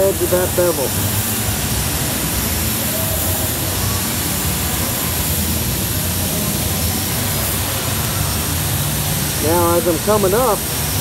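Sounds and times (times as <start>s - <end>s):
welding arc hissing: 0.0s - 11.0s.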